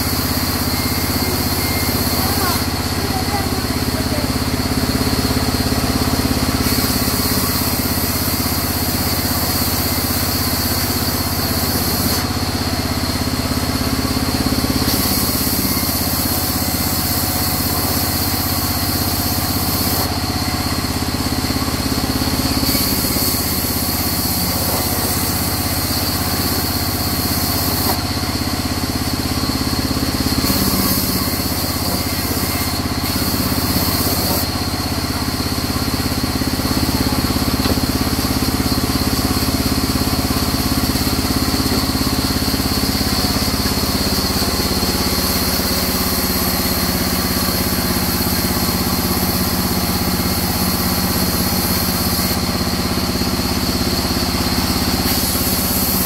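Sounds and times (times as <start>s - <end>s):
saw blade cutting hiss: 0.0s - 5.7s, 6.5s - 12.3s, 14.6s - 20.3s, 22.0s - 56.0s
band saw running: 0.0s - 56.0s.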